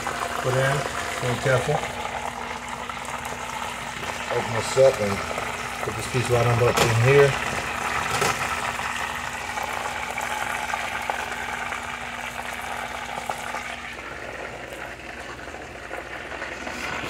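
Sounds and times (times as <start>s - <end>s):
chicken frying in oil: 0.0s - 17.0s.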